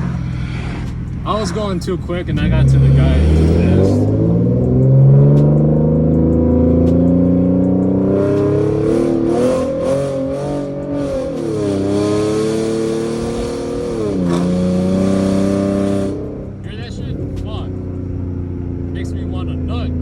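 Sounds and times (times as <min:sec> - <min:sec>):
car engine through loud exhaust: 0:00.0 - 0:20.0.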